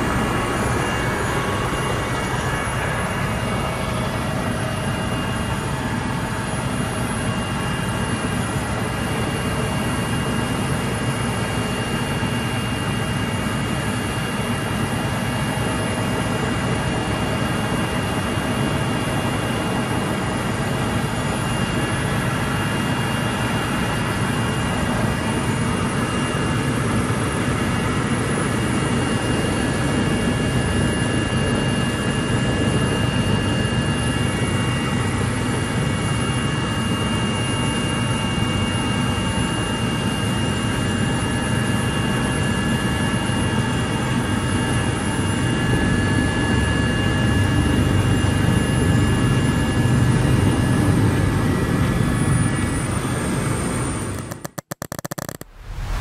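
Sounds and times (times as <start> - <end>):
helicopter rotor rumble: 0.0 - 56.0
high turbine whine: 0.0 - 56.0.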